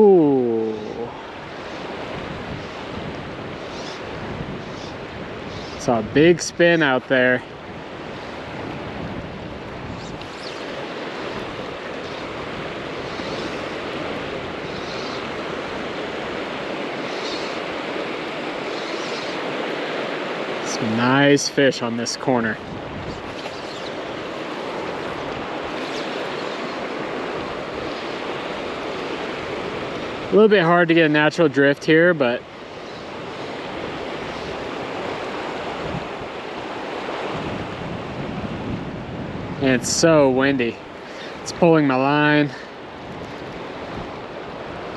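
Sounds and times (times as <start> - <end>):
gusty wind: 0.0 - 44.9
river water rushing: 0.0 - 44.9.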